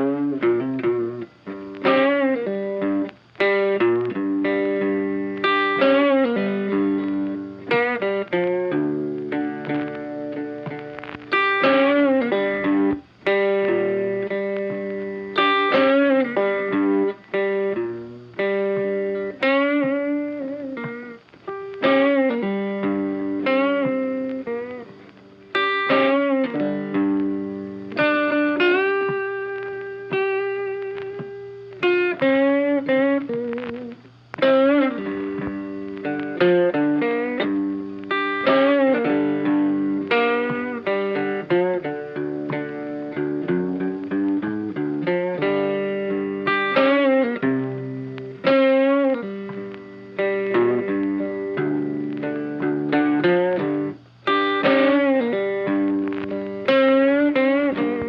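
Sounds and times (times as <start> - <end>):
electric guitar melody: 0.0 - 58.0.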